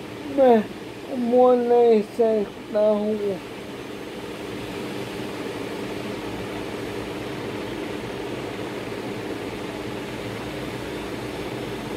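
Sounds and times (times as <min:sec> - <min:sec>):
background hum and hiss: 0:00.0 - 0:11.9.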